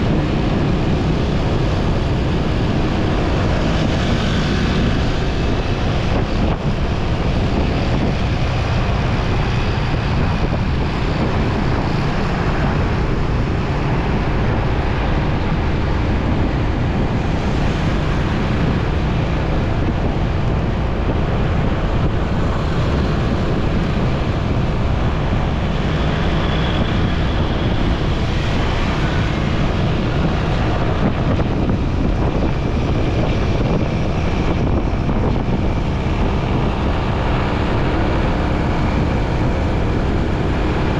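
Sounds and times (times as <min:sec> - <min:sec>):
road noise: 0:00.0 - 0:40.9
wind rush on microphone: 0:00.0 - 0:40.9.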